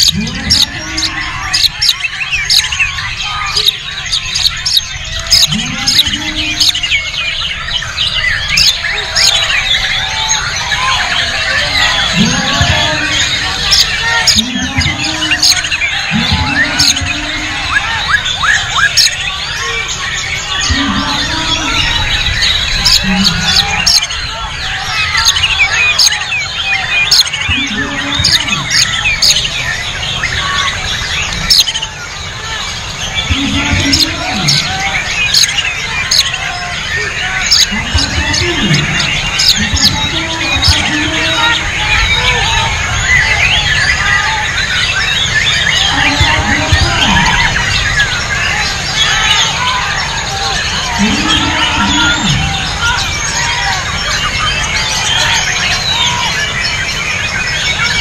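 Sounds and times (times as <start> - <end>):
other songbirds singing: 0.0 - 58.0.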